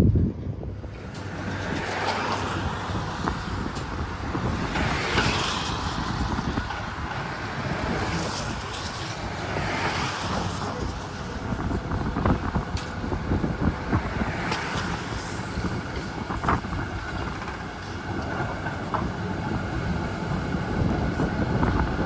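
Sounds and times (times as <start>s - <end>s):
tram wheels rumbling on rail: 0.0s - 22.0s.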